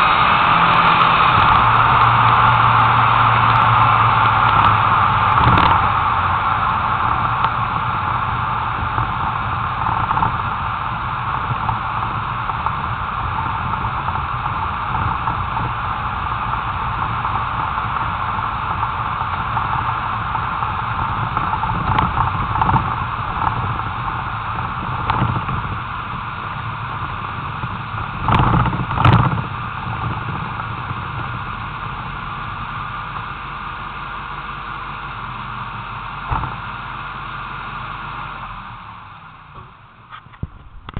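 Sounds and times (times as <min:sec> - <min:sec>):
low car rumble: 0:00.0 - 0:40.9
road and wind noise: 0:00.0 - 0:40.9.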